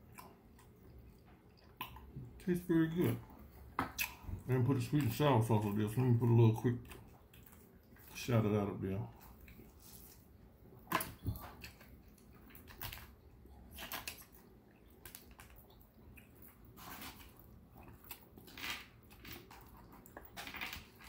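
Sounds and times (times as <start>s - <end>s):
chewing: 0.0s - 2.4s, 3.1s - 6.0s, 6.7s - 8.2s, 9.1s - 21.0s.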